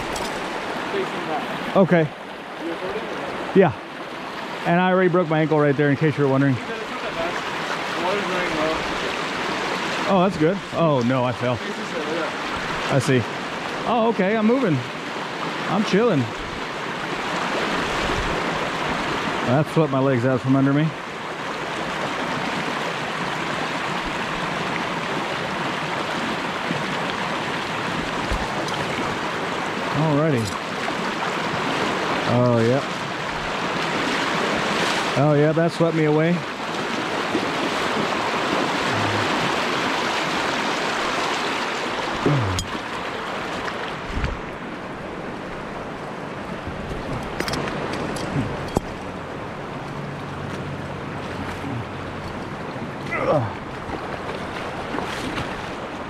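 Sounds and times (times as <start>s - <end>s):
river water rushing over weir: 0.0s - 56.0s.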